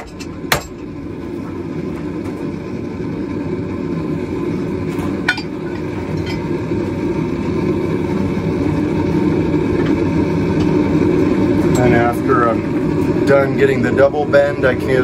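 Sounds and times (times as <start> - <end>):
gas forge roaring: 0.0 - 15.0.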